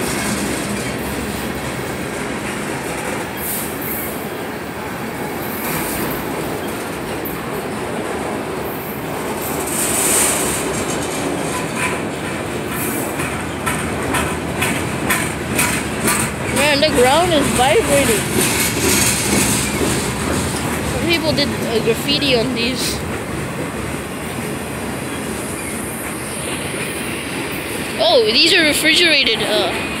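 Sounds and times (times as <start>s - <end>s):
freight train cars rumbling past: 0.0s - 30.0s.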